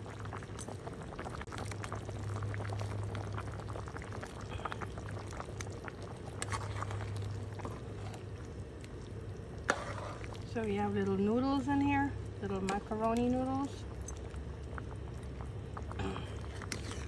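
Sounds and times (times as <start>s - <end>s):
soup bubbling and popping: 0.0s - 17.0s
steady low hum: 0.0s - 17.0s.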